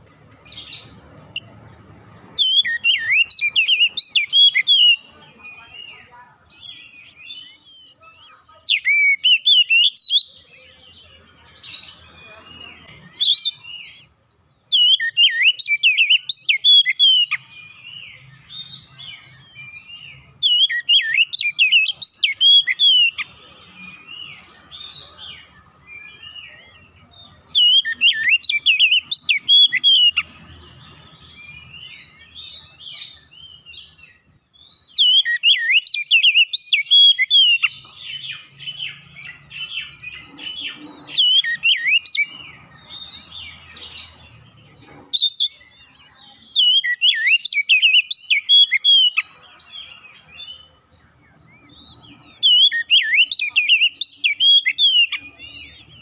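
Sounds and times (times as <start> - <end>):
bird song whistles and chirps: 0.0 - 56.0.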